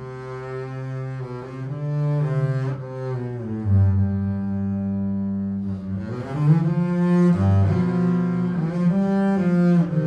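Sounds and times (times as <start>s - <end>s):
double bass bowed low note: 0.0s - 10.0s.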